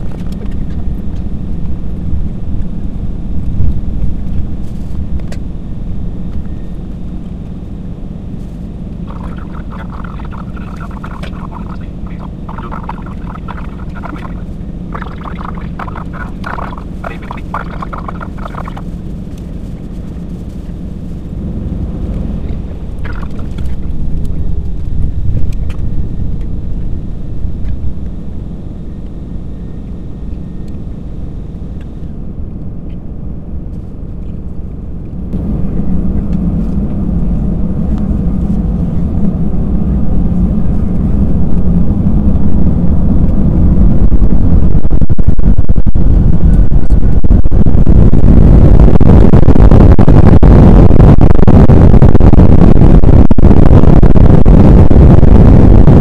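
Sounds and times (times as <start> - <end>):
jet engines heard inside cabin: 0.0 - 56.0.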